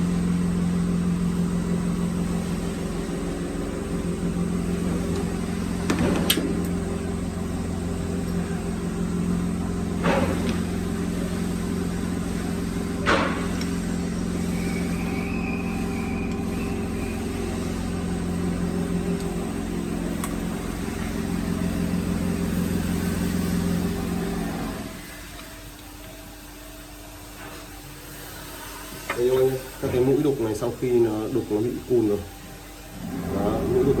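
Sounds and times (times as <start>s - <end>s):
mortising machine motor hum: 0.0s - 25.9s, 29.0s - 34.0s.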